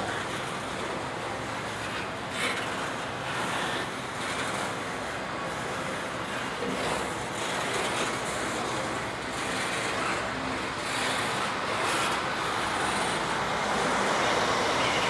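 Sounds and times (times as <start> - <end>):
freight train wheels rumbling on track: 0.0 - 15.0.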